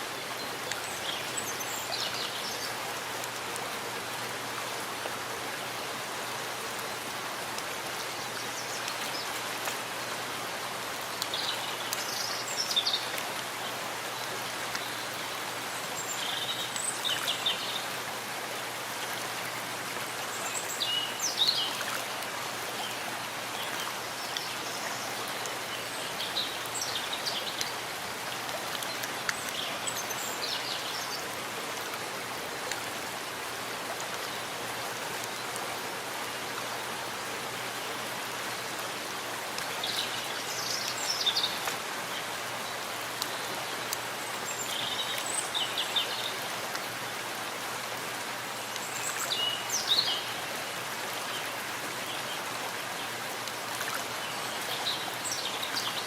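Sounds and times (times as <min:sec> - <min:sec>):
rain falling in a forest: 0:00.0 - 0:56.0.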